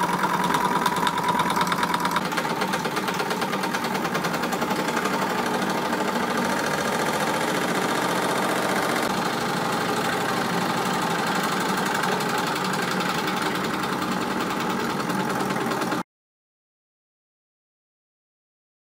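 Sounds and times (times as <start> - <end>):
toy steam engine chuffing: 0.0 - 16.0.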